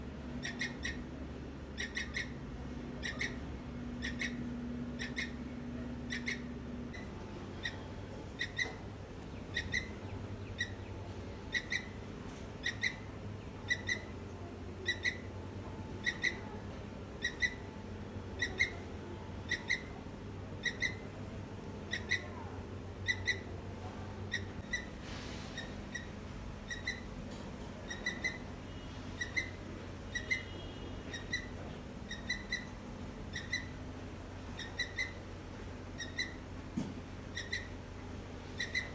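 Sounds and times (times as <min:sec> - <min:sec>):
squirrel chirping: 0:00.4 - 0:12.0, 0:12.6 - 0:14.2, 0:14.8 - 0:15.3, 0:15.9 - 0:20.0, 0:20.6 - 0:21.1, 0:21.8 - 0:23.5, 0:24.2 - 0:25.0, 0:25.6 - 0:27.1, 0:27.8 - 0:36.5, 0:37.2 - 0:38.9.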